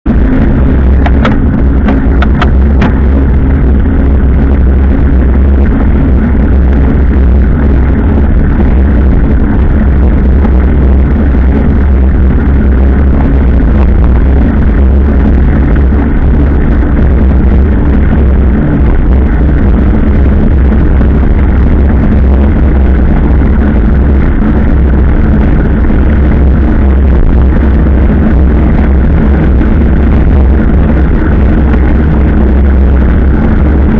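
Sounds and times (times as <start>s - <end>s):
motorcycle engine running: 0.0s - 33.9s
wind rumble on microphone: 0.0s - 33.9s.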